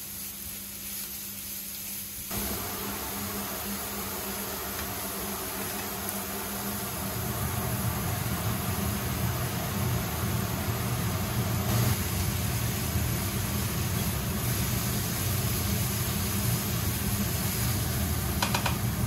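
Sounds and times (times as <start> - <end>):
vegetables frying in a pan: 0.0 - 19.0
low mechanical hum: 2.0 - 19.0.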